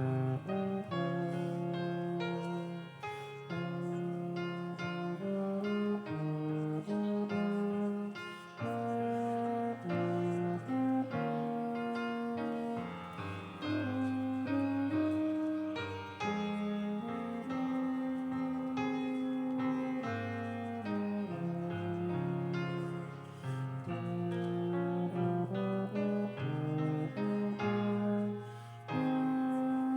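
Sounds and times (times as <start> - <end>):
keyboard playing slow chords: 0.0 - 29.9.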